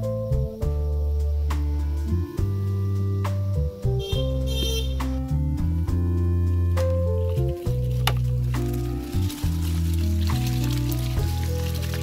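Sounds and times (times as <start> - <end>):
plucked notes over bass: 0.0 - 12.0.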